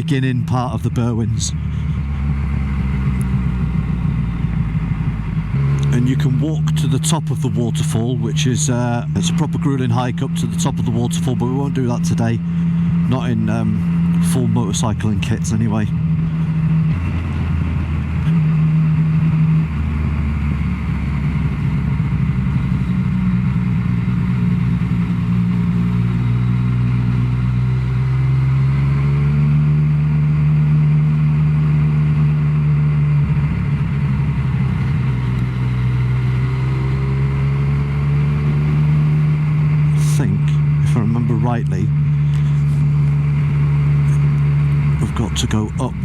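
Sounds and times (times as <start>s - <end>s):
motorcycle engine shifting gears: 0.0s - 46.0s
wind and road noise: 0.0s - 46.0s.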